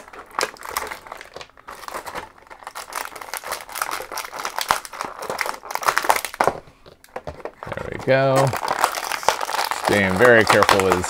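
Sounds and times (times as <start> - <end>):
plastic blister tray crinkling: 0.0 - 11.0.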